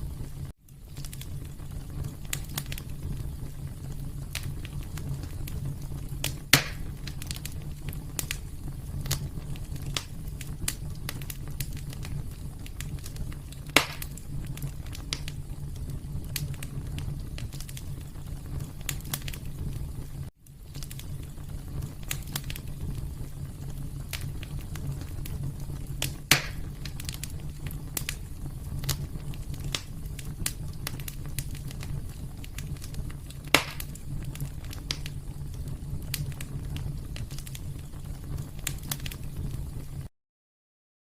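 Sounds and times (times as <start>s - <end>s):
wood fire crackling: 0.0s - 40.1s.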